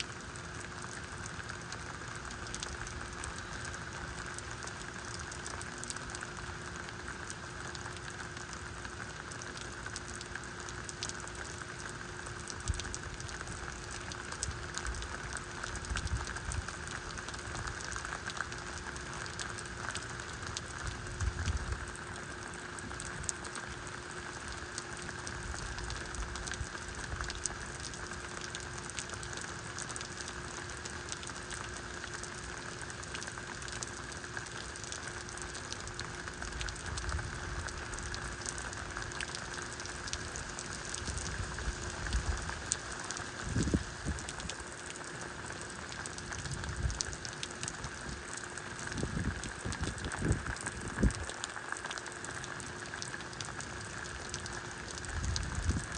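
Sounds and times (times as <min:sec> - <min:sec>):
faint steady hum: 0:00.0 - 0:55.9
rain falling: 0:00.0 - 0:55.9.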